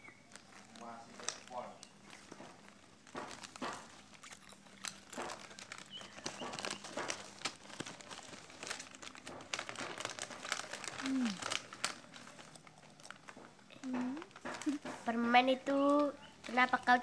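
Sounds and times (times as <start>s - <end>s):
plastic wrappers crinkling: 0.0s - 17.0s.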